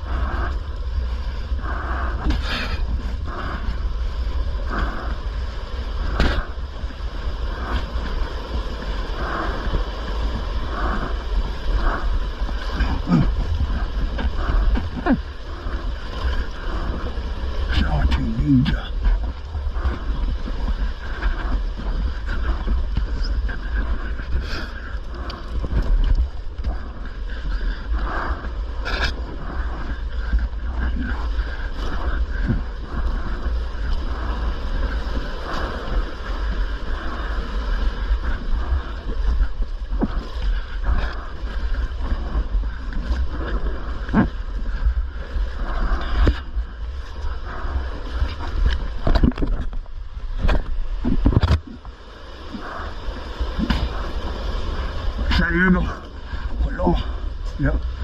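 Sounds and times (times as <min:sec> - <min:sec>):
seawater sloshing among rocks: 0:00.0 - 0:58.0
steady low rumble: 0:00.0 - 0:58.0
water gurgles: 0:00.0 - 0:58.0.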